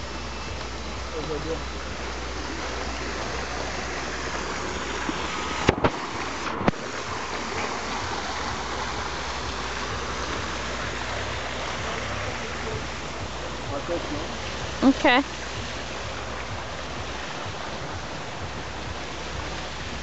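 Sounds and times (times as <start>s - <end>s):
fountain water splashing into basin: 0.0s - 20.0s.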